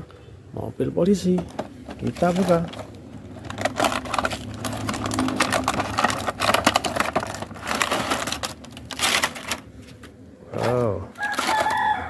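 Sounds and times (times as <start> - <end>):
packaging crackling and rustling: 1.3 - 12.0.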